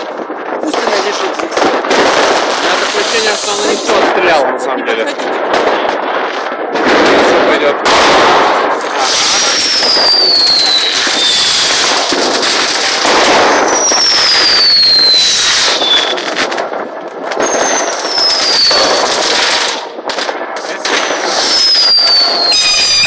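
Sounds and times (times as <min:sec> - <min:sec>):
whistling fireworks: 0:00.0 - 0:04.5, 0:05.1 - 0:23.0
fireworks bangs and crackling: 0:00.0 - 0:23.0.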